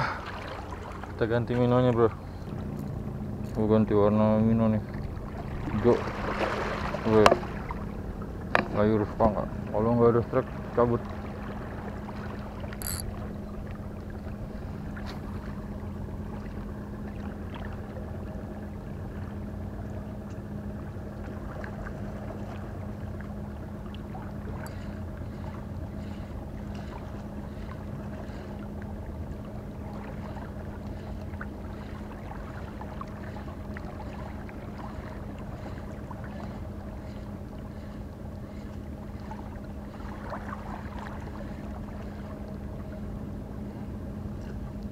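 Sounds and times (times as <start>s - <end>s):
boat engine drone: 0.0s - 44.9s.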